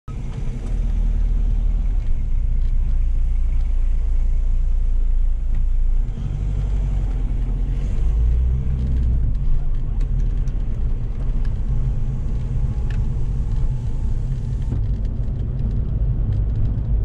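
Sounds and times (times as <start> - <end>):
car engine and road noise: 0.1 - 17.0.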